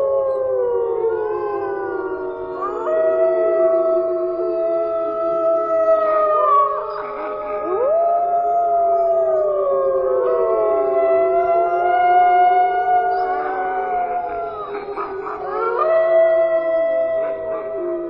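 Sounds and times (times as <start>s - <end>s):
wolves howling: 0.0s - 18.0s.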